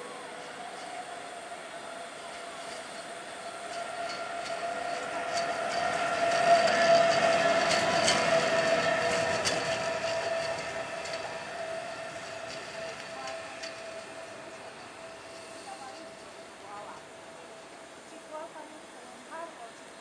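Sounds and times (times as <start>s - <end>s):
wheels clicking on rails: 0.0s - 19.5s
electric locomotive whine: 0.0s - 20.0s.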